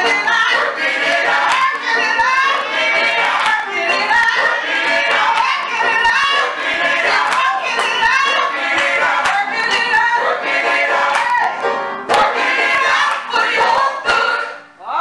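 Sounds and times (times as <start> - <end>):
choir singing: 0.0 - 14.8.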